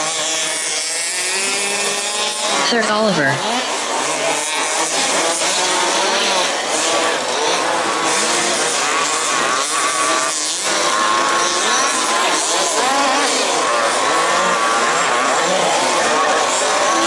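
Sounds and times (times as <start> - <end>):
small two-stroke engines revving: 0.0 - 17.0.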